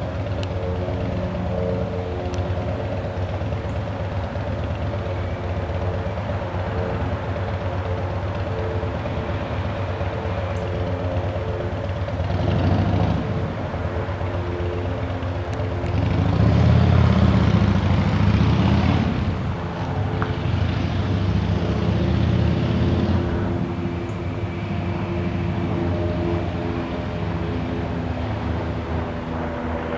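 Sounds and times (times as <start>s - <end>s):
light planes droning overhead: 0.0s - 29.9s.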